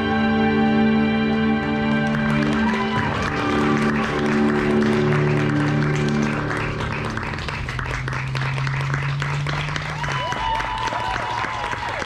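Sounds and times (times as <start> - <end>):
music with long held notes: 0.0 - 10.1
audience applause: 1.7 - 12.0.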